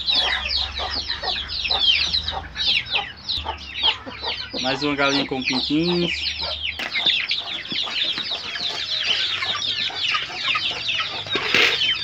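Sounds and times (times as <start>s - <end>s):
chickens peeping: 0.0s - 12.0s.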